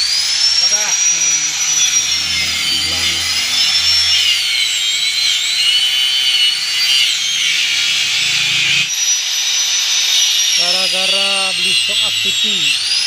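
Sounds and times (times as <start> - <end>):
power tool high-pitched whine: 0.0 - 13.0.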